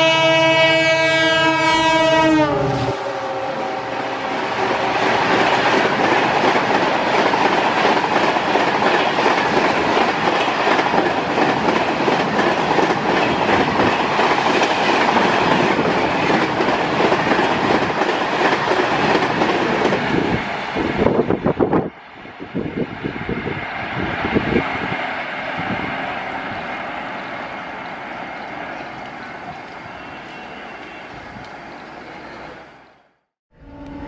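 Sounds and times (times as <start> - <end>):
train roaring past: 0.0 - 34.0.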